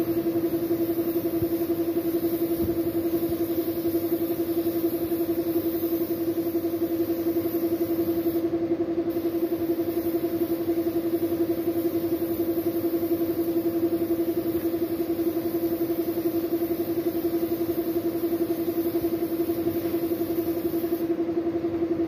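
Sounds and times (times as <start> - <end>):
spray gun air hiss: 0.0 - 8.5, 9.1 - 21.2
air compressor running: 0.0 - 22.0.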